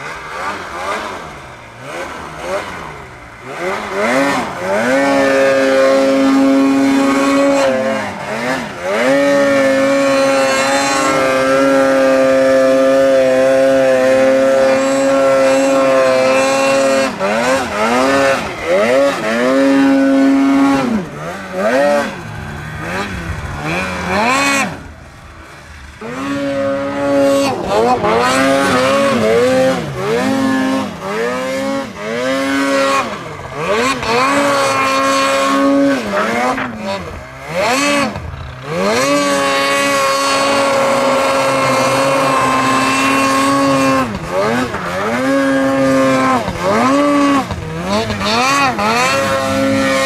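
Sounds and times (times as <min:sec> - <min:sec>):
snowmobile engine revving: 0:00.0 - 0:50.0.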